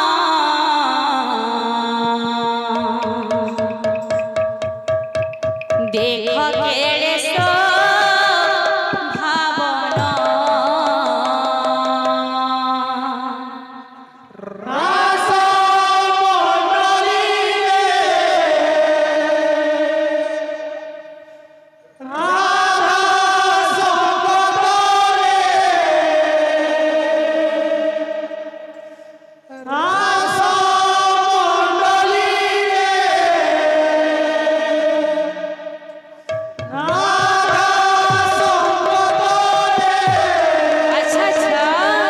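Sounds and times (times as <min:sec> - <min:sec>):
singers chanting in chorus: 0:00.0 - 0:04.4, 0:05.9 - 0:42.0.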